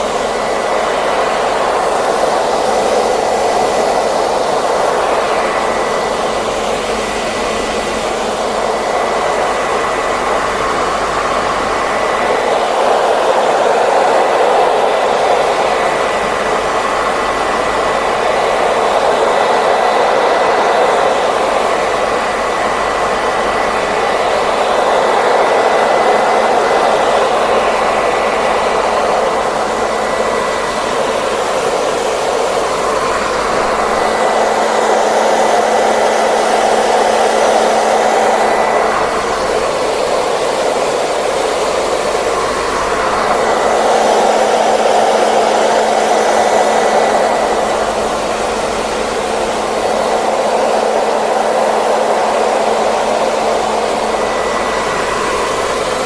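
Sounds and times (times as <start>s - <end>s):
hairdryer blowing: 0.0s - 56.0s.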